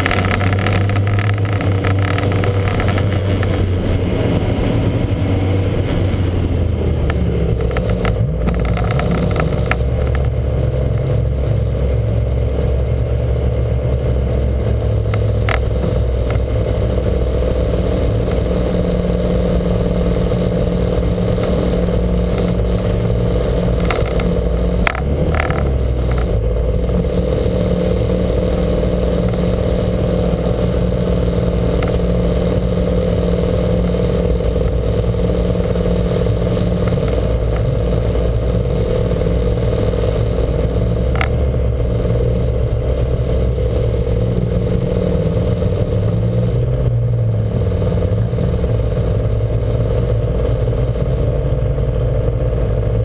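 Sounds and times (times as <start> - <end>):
car engine at part throttle: 0.0 - 53.0
engine crackle: 0.0 - 53.0.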